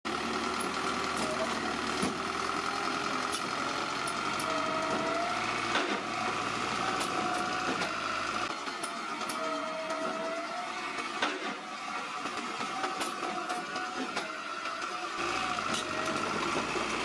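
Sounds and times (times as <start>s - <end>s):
bulldozer engine whining: 0.1s - 17.0s.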